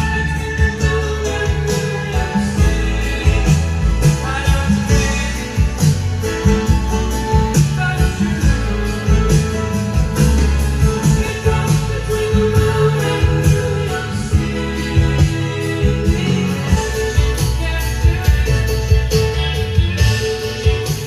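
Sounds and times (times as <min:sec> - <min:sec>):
music with singing and heavy bass: 0:00.0 - 0:21.0.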